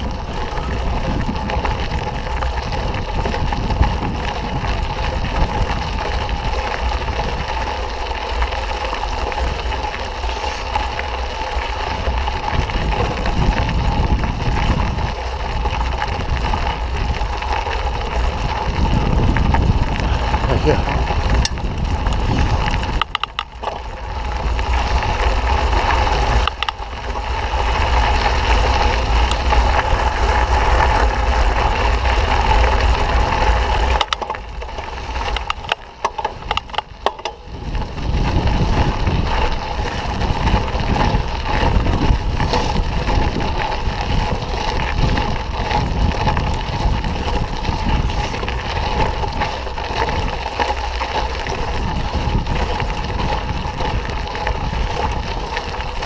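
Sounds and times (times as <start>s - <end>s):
bike clicks: 0.0s - 56.0s
bike rattling: 0.0s - 56.0s
bike tyres crunching on dirt: 0.0s - 56.0s.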